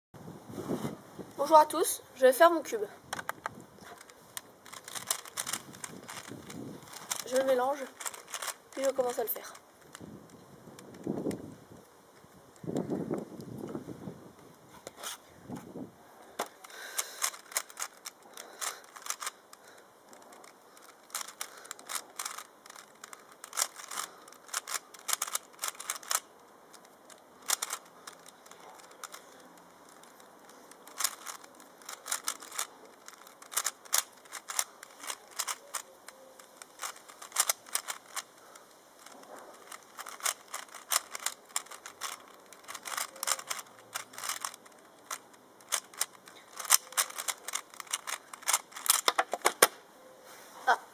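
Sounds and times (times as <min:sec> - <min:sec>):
puzzle cube plastic clicks: 0:01.7 - 0:11.4, 0:12.5 - 0:13.7, 0:16.4 - 0:49.8.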